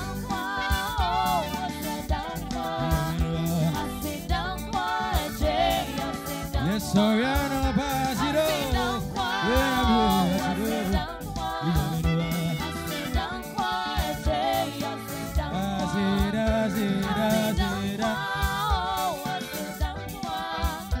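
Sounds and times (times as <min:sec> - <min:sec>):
band with keyboards and drums: 0:00.0 - 0:21.0
singers singing together: 0:00.0 - 0:21.0.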